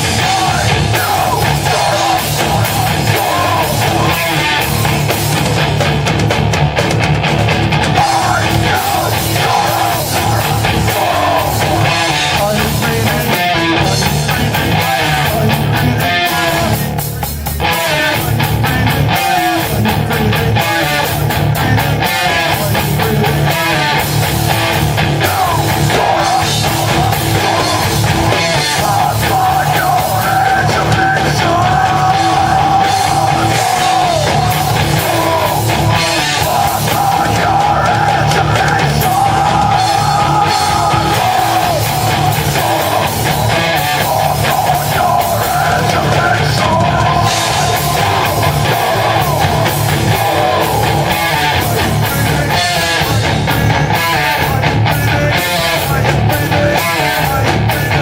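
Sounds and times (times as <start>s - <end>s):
drums: 0.0s - 58.0s
electric guitars: 0.0s - 58.0s.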